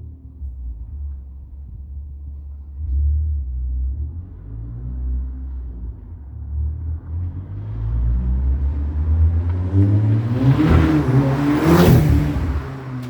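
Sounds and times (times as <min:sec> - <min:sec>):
car exhaust rumbling and revving: 0:00.0 - 0:13.0.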